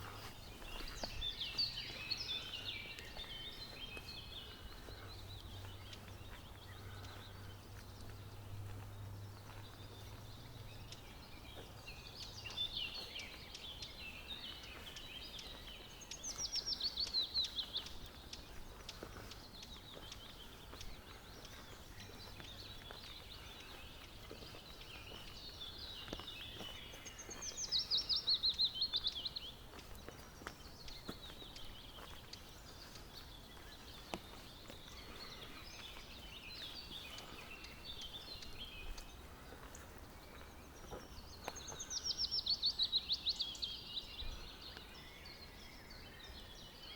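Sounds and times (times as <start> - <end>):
bird singing falling run: 0.0 - 46.9
birds chattering: 0.0 - 46.9.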